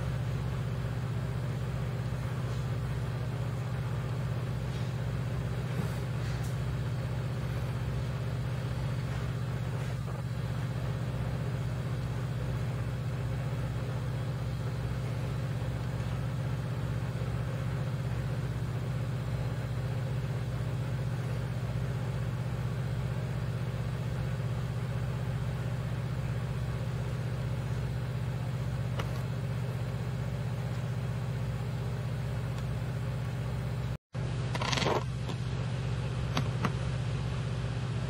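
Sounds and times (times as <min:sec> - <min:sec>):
low engine drone: 0:00.0 - 0:38.0.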